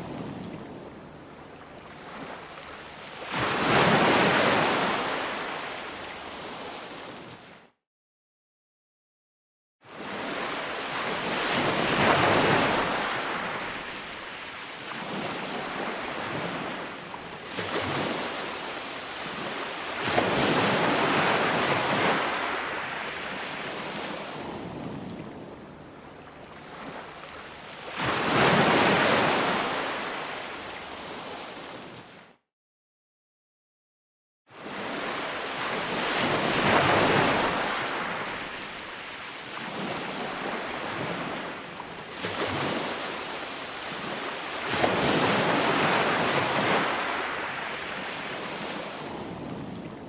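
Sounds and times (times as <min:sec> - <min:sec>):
waves breaking and washing in: 0:00.0 - 0:07.7, 0:09.8 - 0:32.4, 0:34.5 - 0:50.0.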